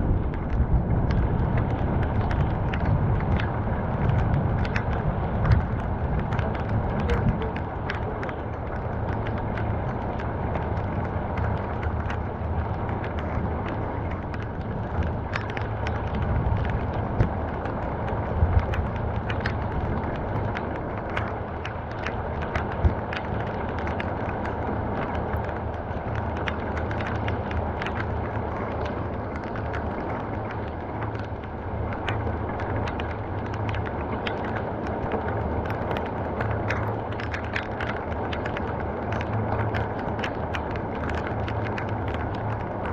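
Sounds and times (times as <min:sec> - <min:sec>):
low rumble: 0:00.0 - 0:42.9
raindrops tapping surfaces: 0:00.0 - 0:42.9
steady rainfall: 0:00.0 - 0:42.9.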